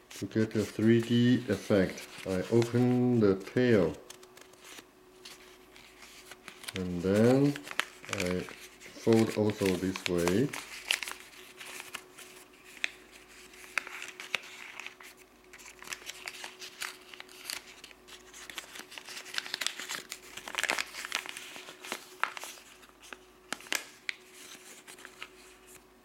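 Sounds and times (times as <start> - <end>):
paper crinkling and folding: 0.0 - 25.9
faint steady hum: 0.0 - 26.0.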